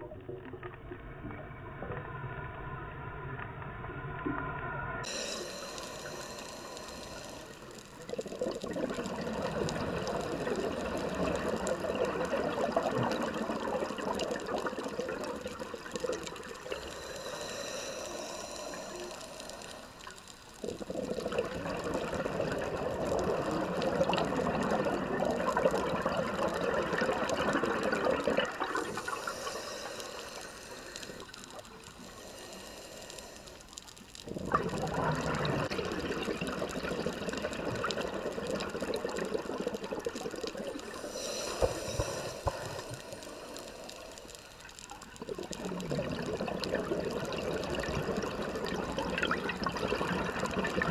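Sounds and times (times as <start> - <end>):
underwater bubbles gurgling: 0.0 - 50.9
regulator hissing on inhale: 5.0 - 50.9.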